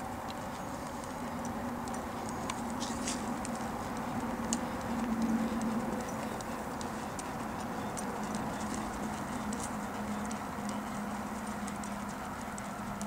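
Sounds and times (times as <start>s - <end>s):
hoofbeats on soft dirt: 0.0s - 13.0s
steady low hum: 0.0s - 13.0s
faint clicks: 0.2s - 13.0s.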